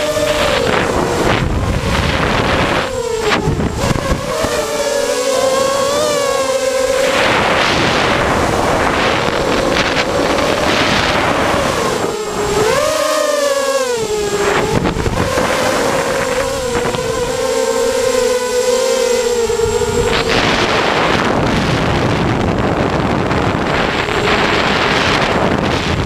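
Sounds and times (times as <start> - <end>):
drone propellers whining: 0.0 - 26.0
wind on microphone: 0.0 - 26.0.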